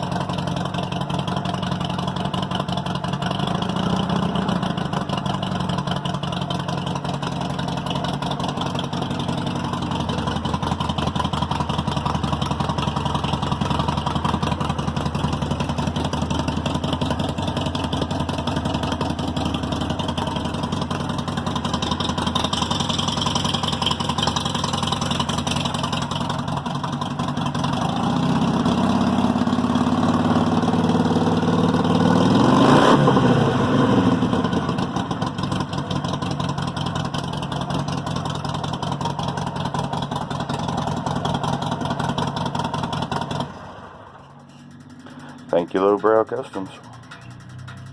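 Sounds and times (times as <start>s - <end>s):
motorcycle engine idling and revving: 0.0s - 47.9s.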